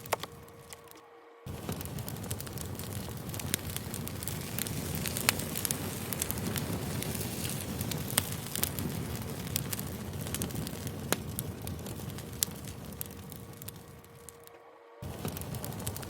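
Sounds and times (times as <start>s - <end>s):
campfire crackling: 0.0s - 16.0s
sharp fire pops: 0.0s - 16.0s.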